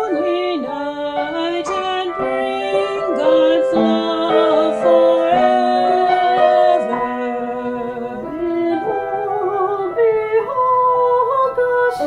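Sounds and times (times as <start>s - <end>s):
keyboard accompaniment: 0.0s - 12.0s
person singing a slow hymn: 0.0s - 12.0s.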